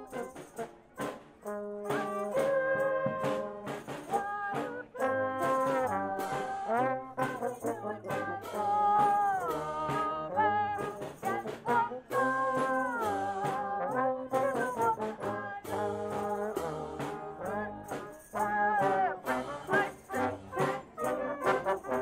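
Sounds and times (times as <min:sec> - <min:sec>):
percussion hits: 0:00.0 - 0:10.2, 0:10.8 - 0:22.0
brass band playing: 0:00.0 - 0:22.0.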